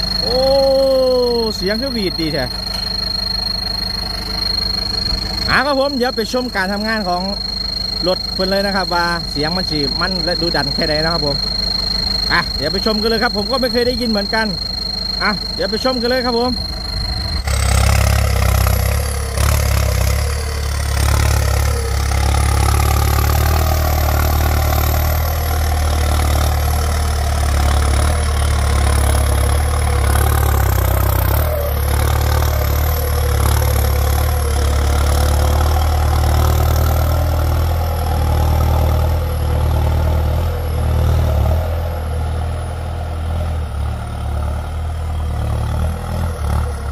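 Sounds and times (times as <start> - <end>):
turbo whistle: 0.0 - 43.8
tractor diesel engine drone: 0.0 - 46.9.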